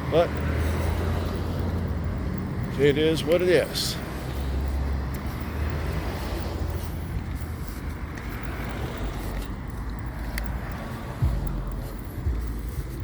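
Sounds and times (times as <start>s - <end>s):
road traffic rumbling past: 0.0s - 13.0s.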